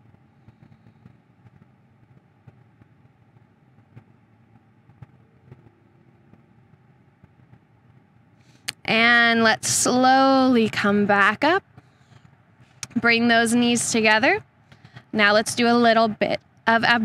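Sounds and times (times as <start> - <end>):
faint low rumble: 0.0 - 17.0.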